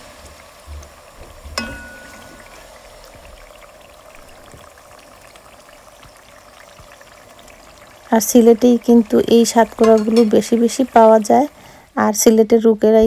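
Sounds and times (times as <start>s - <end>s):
onion sizzling in oil: 0.0s - 12.8s.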